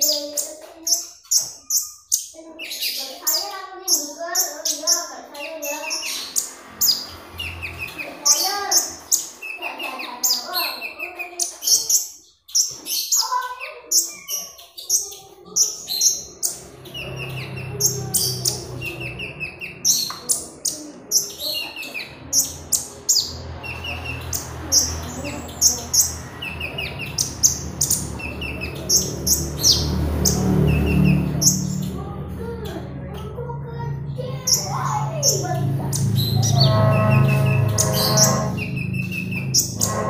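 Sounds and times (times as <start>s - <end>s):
sunbird chirping and trilling: 0.0s - 40.0s.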